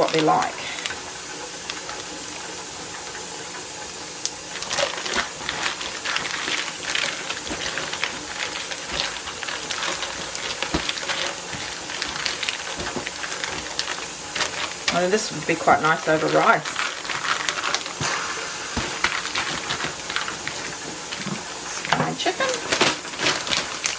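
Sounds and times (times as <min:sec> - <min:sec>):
plastic bags crackling and rustling: 0:00.0 - 0:23.9.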